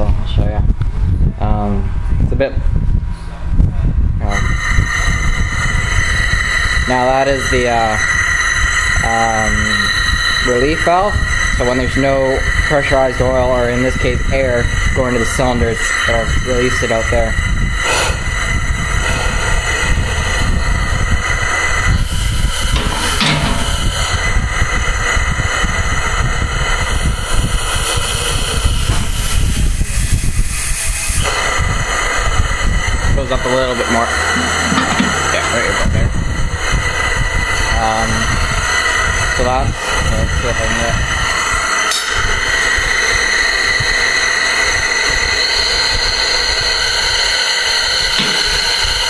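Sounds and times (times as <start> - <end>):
low mechanical drone: 0.0 - 49.0
compressed air hissing through valve: 4.2 - 49.0.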